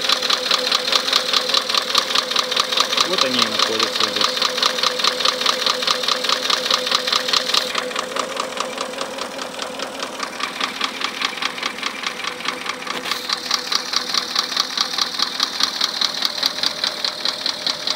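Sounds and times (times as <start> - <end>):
engine running with knocking: 0.0 - 17.9.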